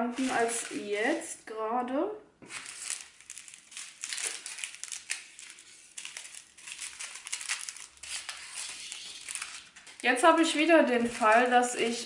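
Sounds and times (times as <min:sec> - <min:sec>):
small plastic bags crinkling: 0:00.0 - 0:01.3, 0:02.4 - 0:12.0.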